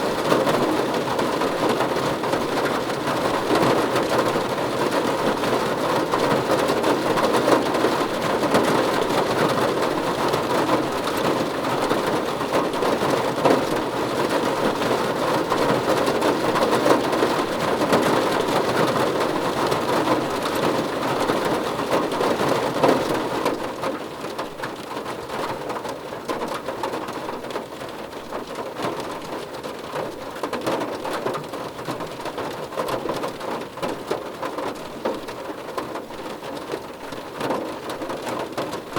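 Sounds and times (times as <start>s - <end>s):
rain pattering on a car roof: 0.0s - 38.9s.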